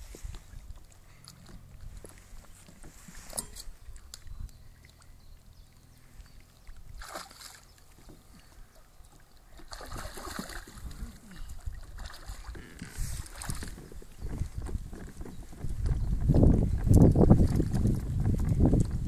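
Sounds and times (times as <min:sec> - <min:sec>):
water lapping around kayak: 0:00.0 - 0:19.0
water splashes: 0:00.0 - 0:19.0.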